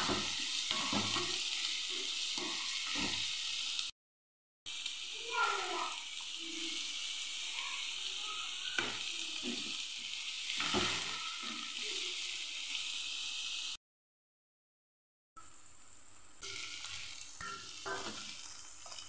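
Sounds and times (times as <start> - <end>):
onions sizzling in hot oil: 0.0 - 3.9, 4.7 - 13.8, 15.4 - 19.0.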